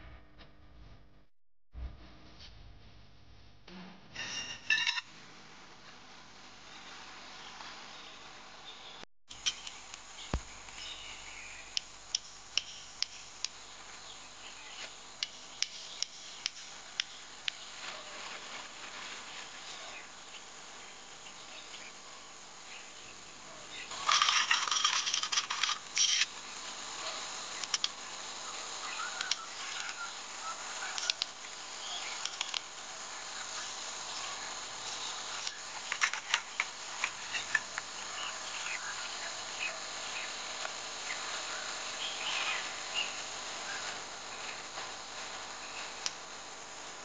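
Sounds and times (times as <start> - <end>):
insects chirring: 6.7 - 47.0.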